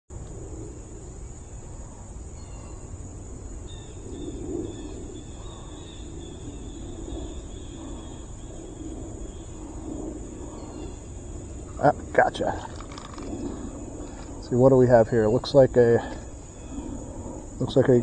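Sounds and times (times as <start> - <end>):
low rumbling noise: 0.1 - 18.0
high-pitched insect chorus: 0.2 - 18.0.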